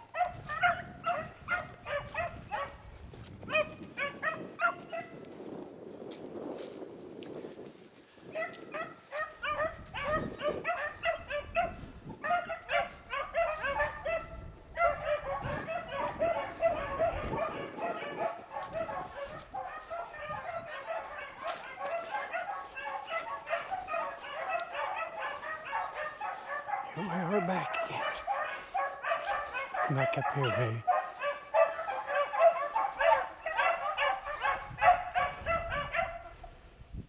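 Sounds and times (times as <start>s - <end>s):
pack of hounds baying: 0.0s - 5.3s, 8.2s - 36.6s.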